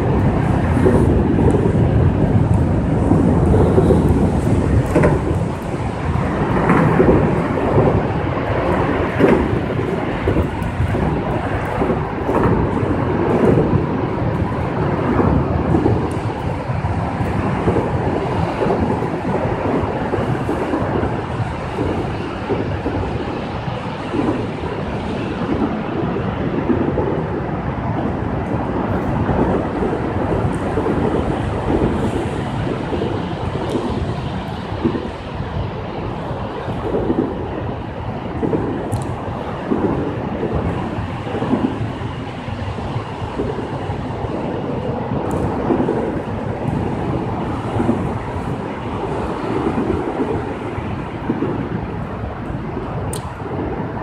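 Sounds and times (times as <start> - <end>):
heavy rain rushing: 0.0 - 54.0.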